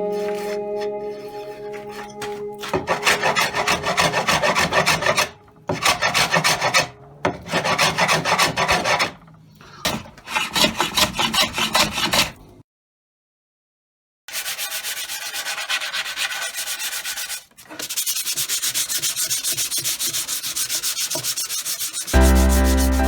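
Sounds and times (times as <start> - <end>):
hand sanding wood: 0.0 - 9.2, 10.3 - 12.4, 14.3 - 23.0.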